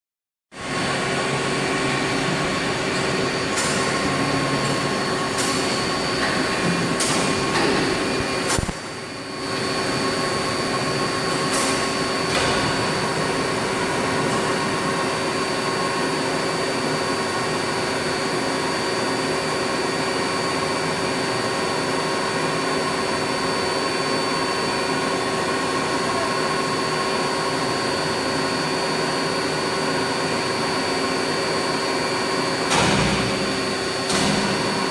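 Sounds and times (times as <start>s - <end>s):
high machine whine: 0.6s - 34.9s.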